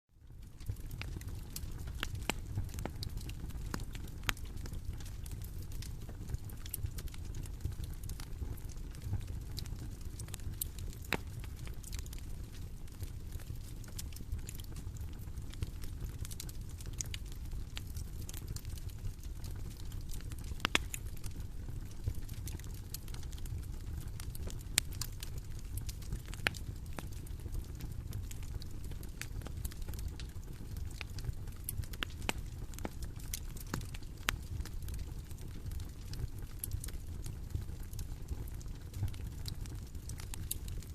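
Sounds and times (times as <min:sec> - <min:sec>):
low rumble of burning: 0:00.1 - 0:40.9
bonfire crackling: 0:00.2 - 0:40.9.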